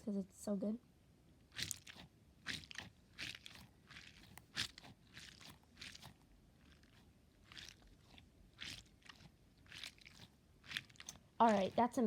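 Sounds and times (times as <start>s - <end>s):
crackly squishes of water beads: 1.4s - 12.0s.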